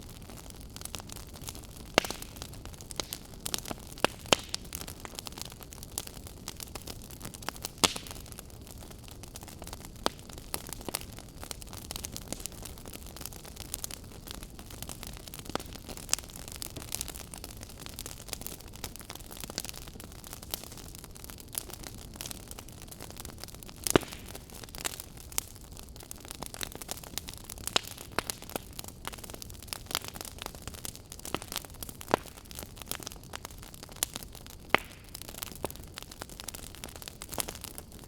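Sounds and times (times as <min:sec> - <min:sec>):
fire crackles and pops: 0:00.0 - 0:38.0.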